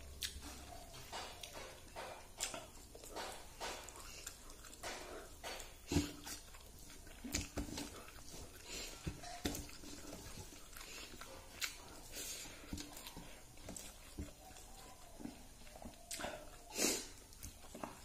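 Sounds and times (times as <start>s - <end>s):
wet chewing and lip smacks: 0.0s - 18.0s.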